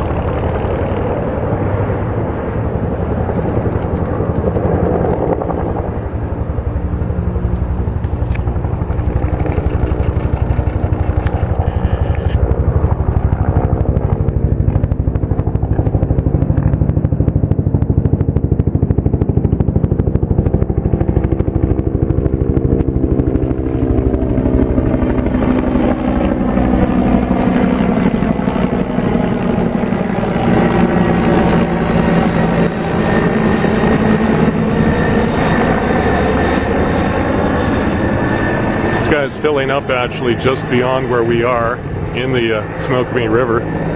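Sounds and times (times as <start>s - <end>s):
helicopter engine whine: 0.0s - 43.9s
helicopter rotor beat: 0.0s - 43.9s.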